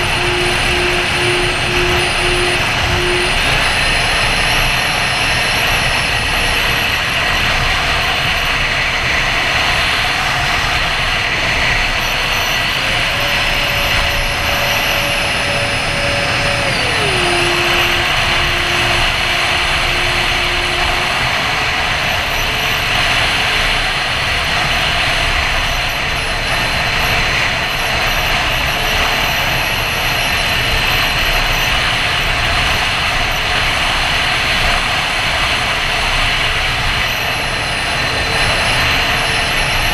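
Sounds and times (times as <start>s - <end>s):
electric ducted fans whining: 0.0s - 39.9s.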